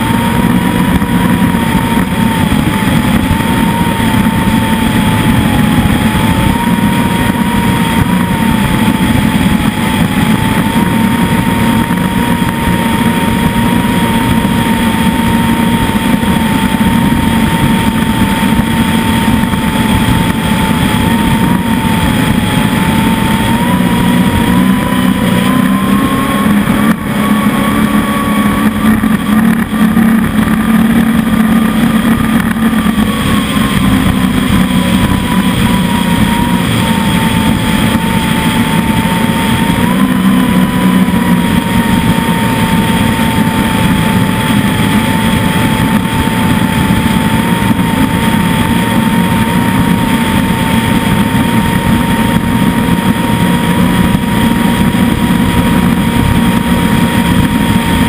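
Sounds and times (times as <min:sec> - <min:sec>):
rushing wind: 0:00.0 - 0:58.0
speedboat engine running: 0:00.0 - 0:58.0
water rushing: 0:00.0 - 0:58.0.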